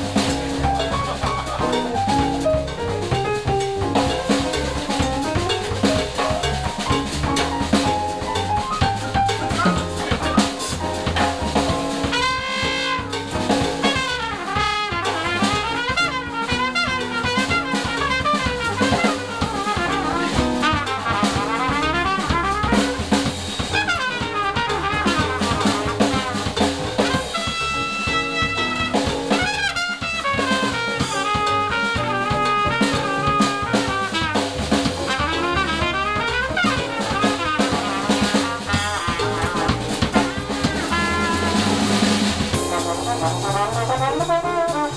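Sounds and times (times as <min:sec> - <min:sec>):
drum kit: 0:00.0 - 0:44.9
jazz band playing: 0:00.0 - 0:44.9
trumpet: 0:00.0 - 0:44.9.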